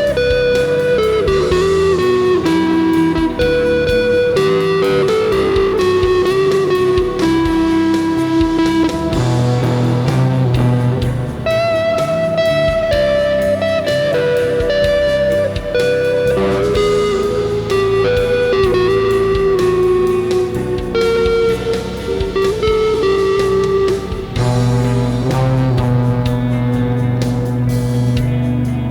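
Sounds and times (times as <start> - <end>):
ambient rock backing track: 0.0 - 28.9
electric guitar lead: 0.0 - 28.9.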